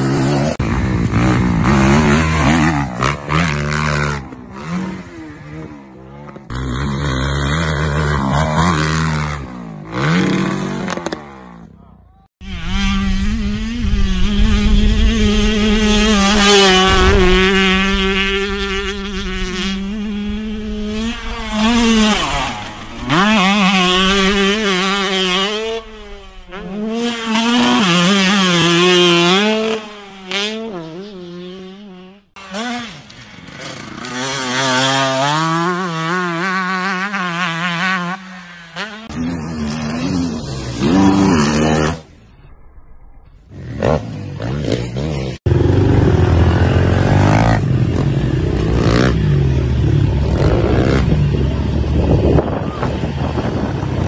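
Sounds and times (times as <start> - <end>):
dirt bike engines revving: 0.0 - 42.3, 43.4 - 54.0.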